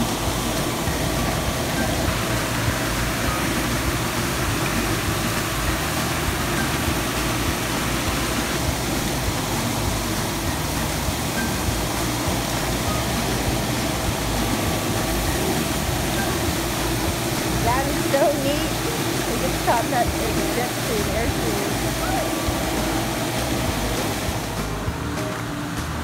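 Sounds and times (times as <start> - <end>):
fountain water jets splashing: 0.0 - 26.0.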